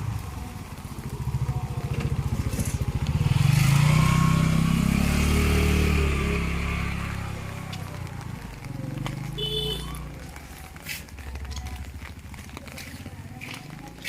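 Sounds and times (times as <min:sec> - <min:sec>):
motorcycle engine passing: 0:00.0 - 0:14.0
tyres hissing on wet road: 0:00.0 - 0:14.0.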